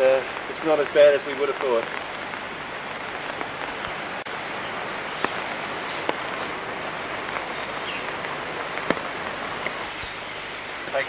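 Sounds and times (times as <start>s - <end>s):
water hissing: 0.0s - 11.0s.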